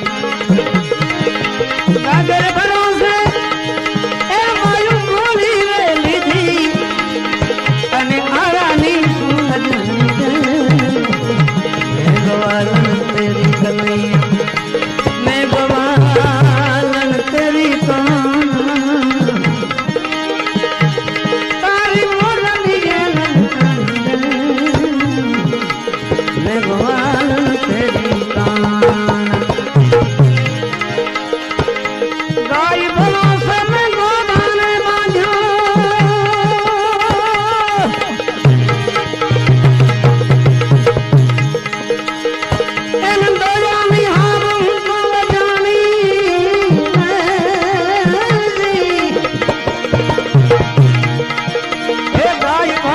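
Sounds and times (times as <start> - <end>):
ornamented melody line: 0.0 - 52.9
tabla playing: 0.0 - 52.9.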